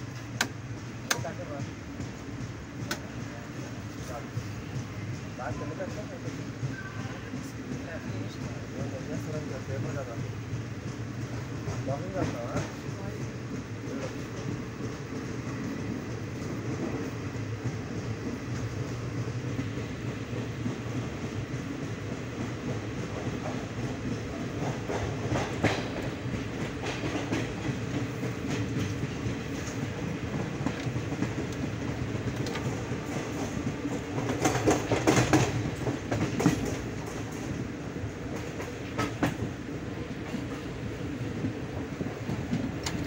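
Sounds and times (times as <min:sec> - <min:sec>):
rumble of train wheels: 0:00.0 - 0:43.0
wheels clacking on track: 0:00.0 - 0:43.0.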